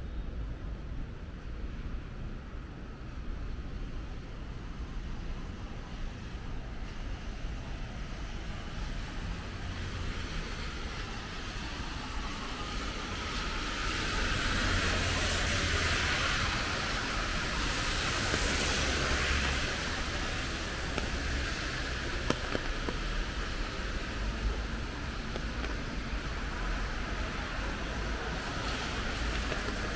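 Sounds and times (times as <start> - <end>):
traffic on wet road: 0.0 - 29.9
rain hissing: 5.4 - 29.9.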